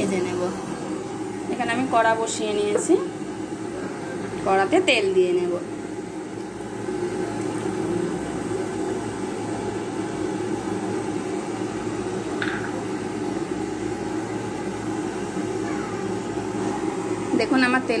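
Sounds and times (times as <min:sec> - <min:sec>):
oil heating rushing noise: 0:00.0 - 0:18.0.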